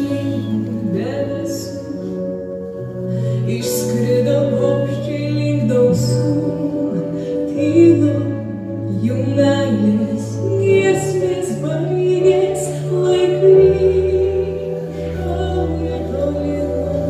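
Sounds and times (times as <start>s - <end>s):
piano accompaniment: 0.0s - 17.0s
woman singing: 0.0s - 17.0s.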